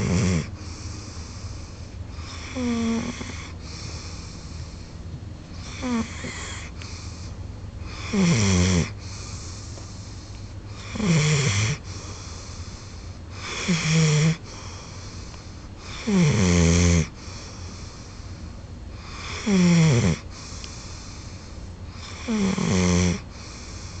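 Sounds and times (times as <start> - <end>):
dog snoring: 0.0 - 4.9, 5.5 - 24.0
quiet breathing: 0.0 - 16.3, 17.0 - 24.0.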